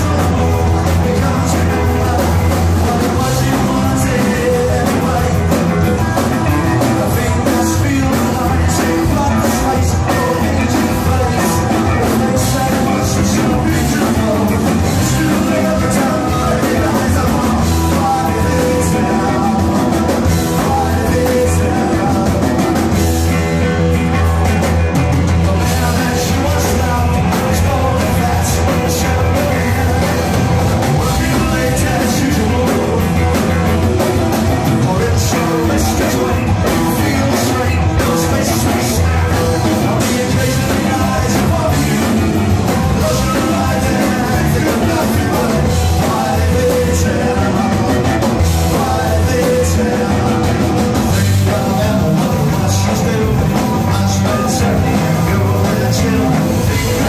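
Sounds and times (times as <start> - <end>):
bass guitar: 0.0 - 57.0
drum kit: 0.0 - 57.0
electric guitar: 0.0 - 57.0
person singing lead vocal: 0.0 - 57.0.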